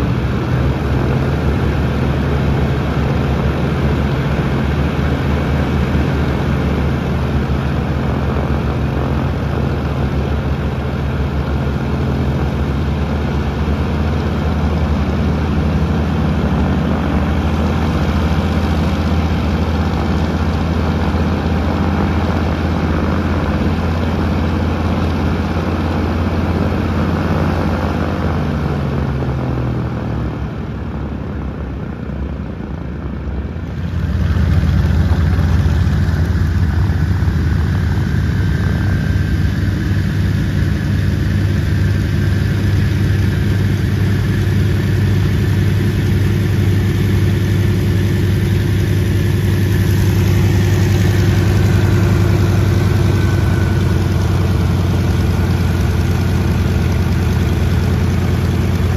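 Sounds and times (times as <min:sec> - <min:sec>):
propeller aircraft engines running: 0:00.0 - 0:58.9.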